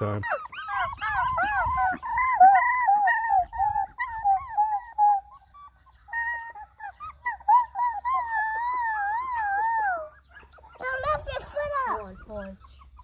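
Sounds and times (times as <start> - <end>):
puppy whimpering: 0.0 - 13.0.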